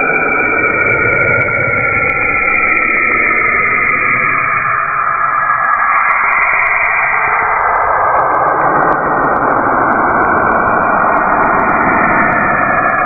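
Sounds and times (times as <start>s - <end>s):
dense rushing noise: 0.0s - 13.0s.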